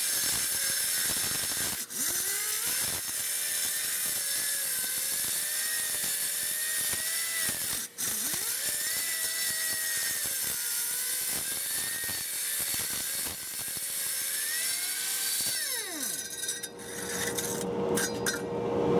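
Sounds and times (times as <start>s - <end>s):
air tool motor whining: 0.0s - 17.7s.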